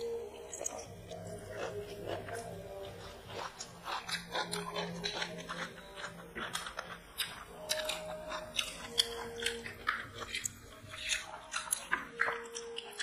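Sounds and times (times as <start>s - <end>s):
people chewing: 0.0s - 13.0s.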